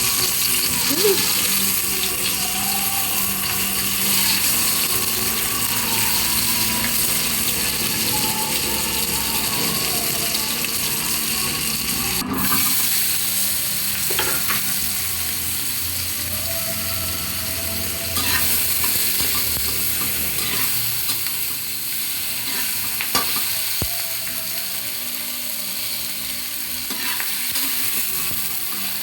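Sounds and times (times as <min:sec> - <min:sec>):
food sizzling in pan: 0:00.0 - 0:29.0.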